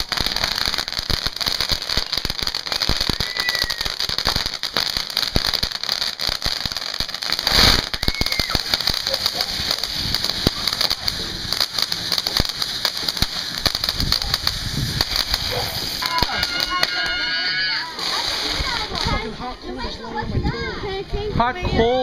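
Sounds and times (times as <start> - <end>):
rushing firework burst: 0.0 - 20.2
fountain fireworks hissing and crackling: 0.0 - 22.0.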